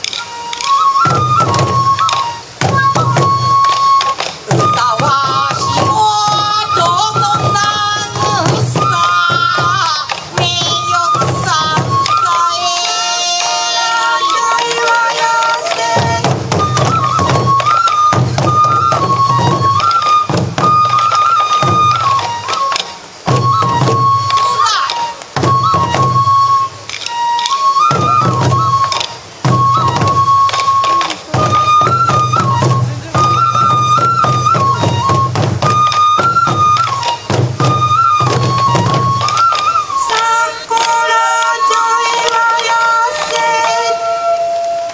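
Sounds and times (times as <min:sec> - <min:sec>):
taiko drums beating: 0:00.0 - 0:44.4
bamboo flute melody: 0:00.0 - 0:44.9.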